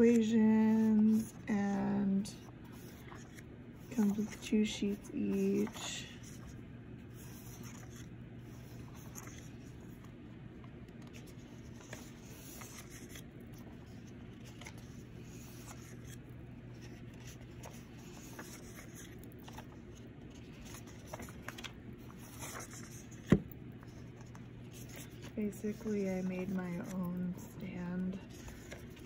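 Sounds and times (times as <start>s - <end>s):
low steady hum: 0.0s - 29.0s
paper rustling: 0.1s - 29.0s.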